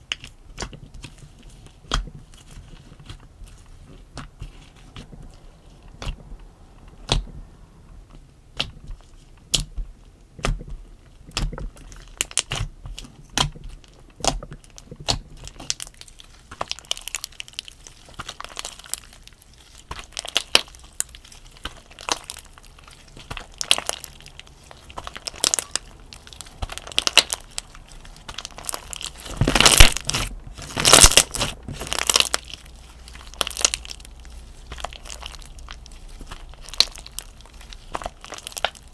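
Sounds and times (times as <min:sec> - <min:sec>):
slime clicking and crackling: 0:00.0 - 0:38.9.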